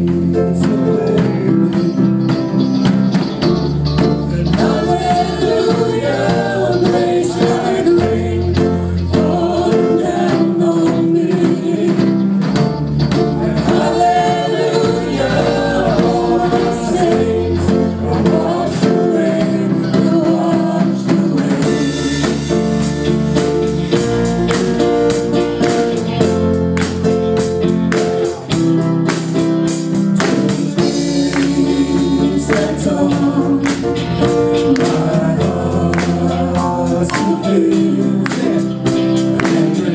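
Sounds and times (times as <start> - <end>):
voices singing worship song: 0.0 - 27.2, 29.1 - 39.9
band with bass: 0.0 - 39.9.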